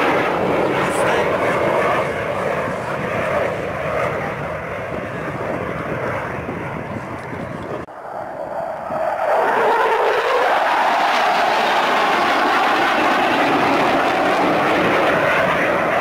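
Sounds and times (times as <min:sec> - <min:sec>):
jet noise of fly-by: 0:00.0 - 0:16.0.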